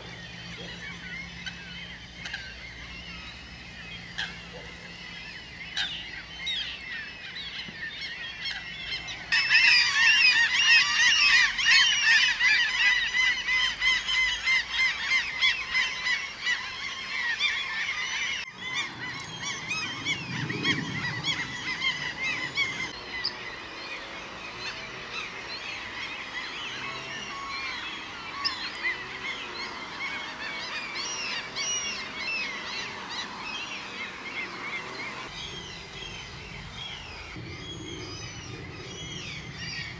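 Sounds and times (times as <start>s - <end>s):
gulls calling: 0.0s - 39.9s.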